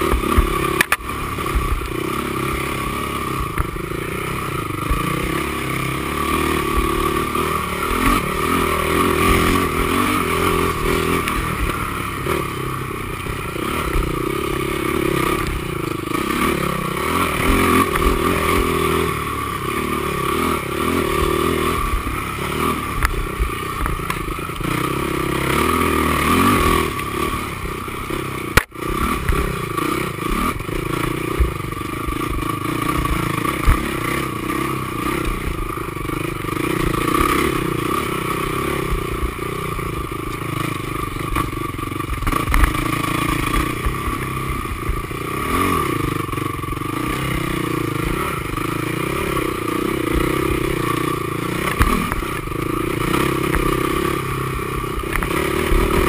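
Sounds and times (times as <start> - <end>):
quad engine revving: 0.0 - 56.0
rattling and scraping over rough ground: 0.0 - 56.0.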